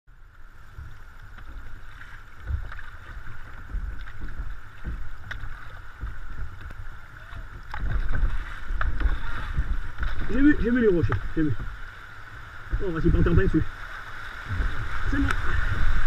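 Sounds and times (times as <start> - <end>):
paddle splashes: 0.1 - 16.0
river water rushing: 0.1 - 16.0
wind on microphone: 0.1 - 16.0.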